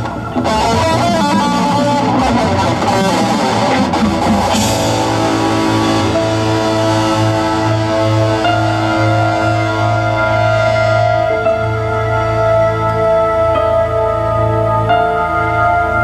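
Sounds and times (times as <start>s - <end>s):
rock marching band music: 0.0s - 15.3s
electric guitar: 0.0s - 16.0s
pulsing electric bass line: 0.0s - 16.0s.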